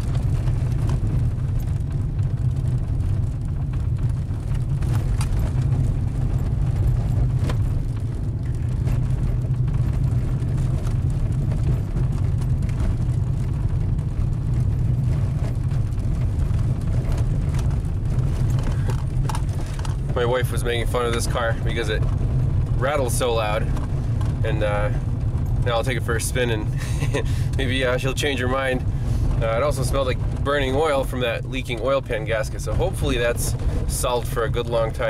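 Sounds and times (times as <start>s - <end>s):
car engine and tyres rumbling: 0.0s - 35.0s
faint clicks from gravel: 0.0s - 35.0s.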